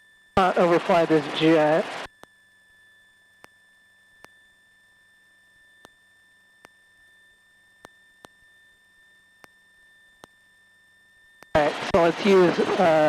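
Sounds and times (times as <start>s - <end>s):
high-pitched electrical tone: 0.0s - 13.0s.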